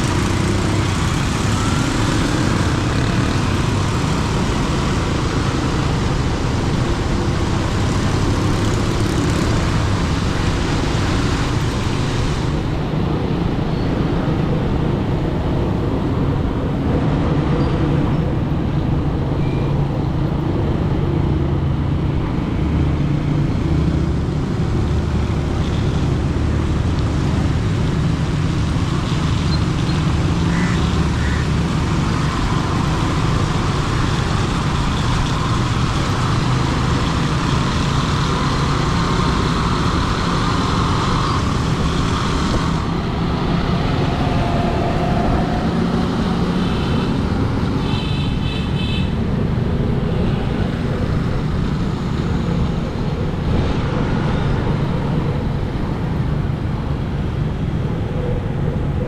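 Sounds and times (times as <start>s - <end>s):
low rumble of engines: 0.0s - 59.0s.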